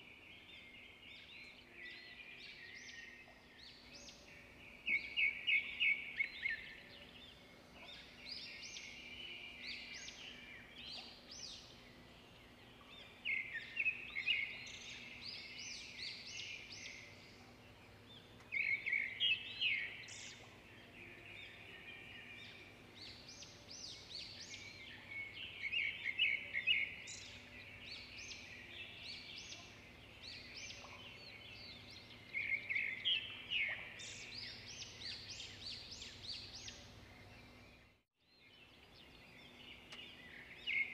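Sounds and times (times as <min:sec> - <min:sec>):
faint background noise: 0:00.0 - 0:40.9.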